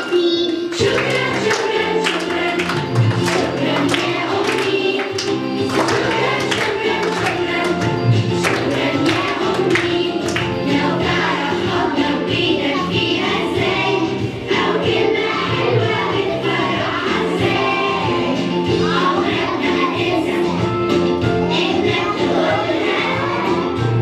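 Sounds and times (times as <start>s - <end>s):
group of voices singing: 0.0s - 24.0s.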